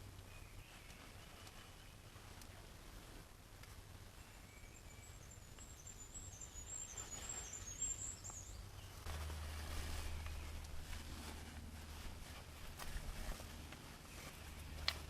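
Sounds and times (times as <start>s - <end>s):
low rumble with soft hiss: 0.0s - 15.0s.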